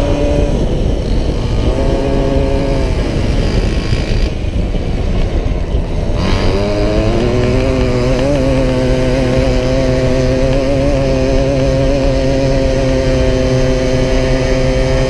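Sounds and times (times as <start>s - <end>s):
moped two-stroke engine: 0.0s - 15.0s
wind rumble on microphone: 0.0s - 15.0s.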